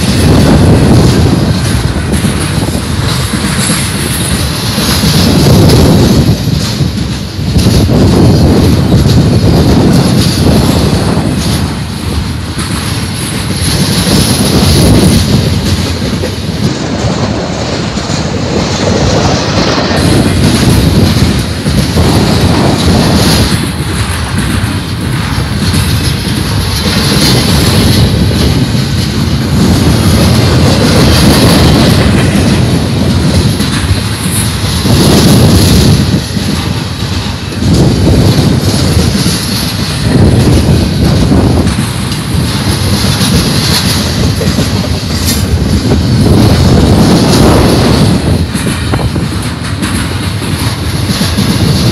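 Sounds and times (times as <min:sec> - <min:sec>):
freight train wheels rumbling and clacking: 0:00.0 - 0:51.9
wind buffeting microphone: 0:00.0 - 0:51.9.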